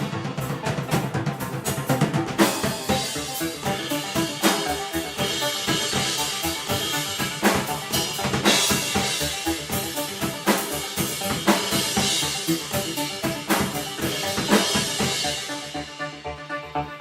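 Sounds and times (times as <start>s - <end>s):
drum kit with cymbal crashes: 0.0s - 16.0s
live band playing: 0.0s - 17.0s.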